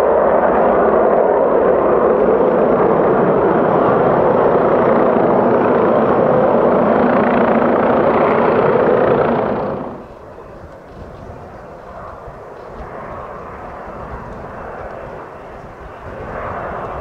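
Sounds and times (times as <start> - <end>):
faint jet approaching: 0.0 - 17.0
jet passing overhead: 0.0 - 17.0.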